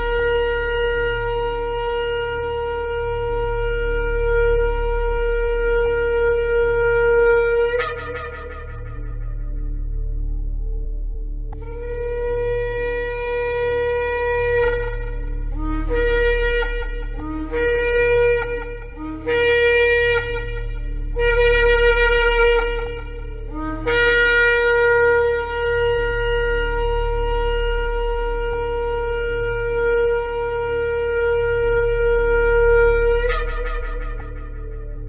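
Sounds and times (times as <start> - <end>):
shofar blasts: 0.0 - 10.8, 11.6 - 35.0.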